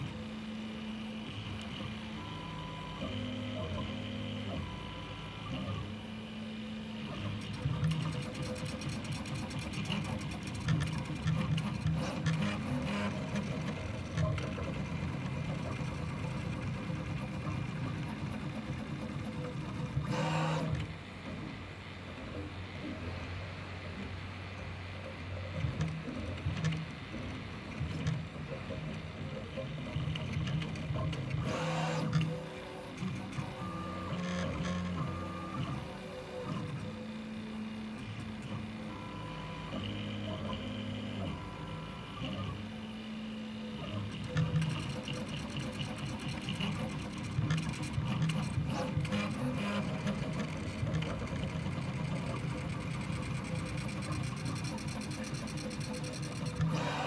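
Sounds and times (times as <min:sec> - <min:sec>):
three d printer stepper motors humming: 0:00.0 - 0:57.0.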